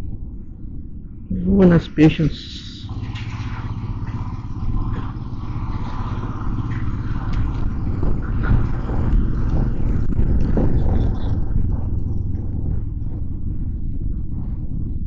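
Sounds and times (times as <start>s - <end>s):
motorcycle engine running: 2.8s - 15.0s
road and wind noise: 2.9s - 15.0s.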